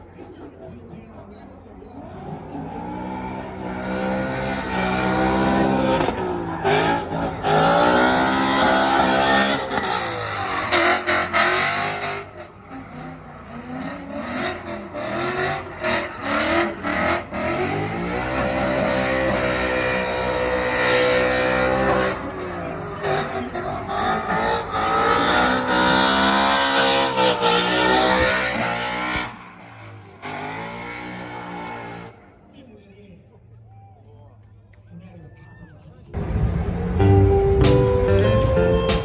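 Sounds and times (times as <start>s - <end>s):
car engine revving: 1.5s - 32.6s, 36.2s - 39.0s.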